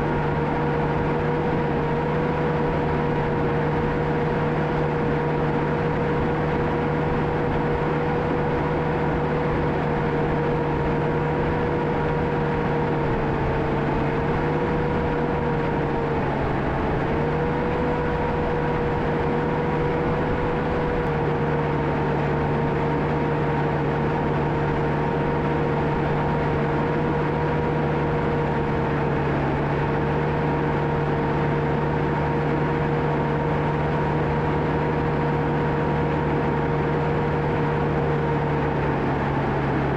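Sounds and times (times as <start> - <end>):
bulldozer engine whining: 0.0 - 39.9.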